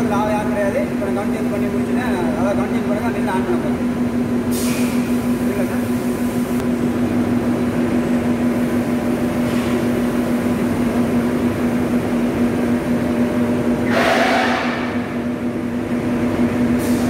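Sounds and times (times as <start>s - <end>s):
mill machinery humming: 0.0s - 17.0s.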